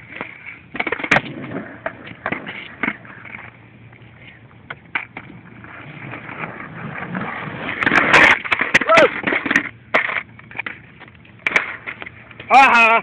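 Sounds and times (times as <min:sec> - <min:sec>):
skateboard clacking: 0:00.0 - 0:13.0
skateboard wheels rolling on asphalt: 0:00.0 - 0:13.0.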